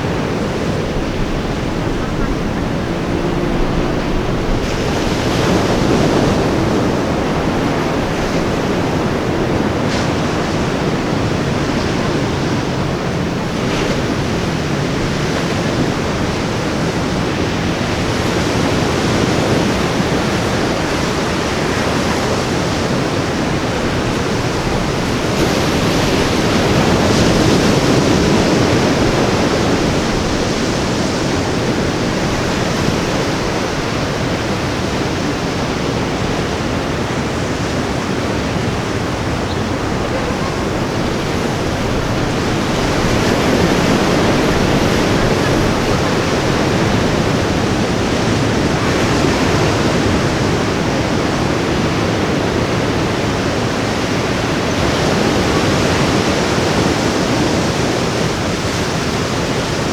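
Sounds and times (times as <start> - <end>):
waves breaking on a beach: 0.0 - 59.9.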